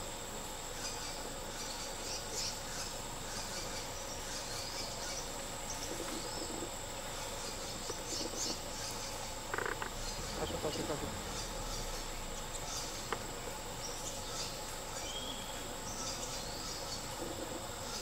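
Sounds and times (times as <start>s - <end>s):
insect chorus: 0.0s - 18.0s
bird chirps: 0.8s - 18.0s.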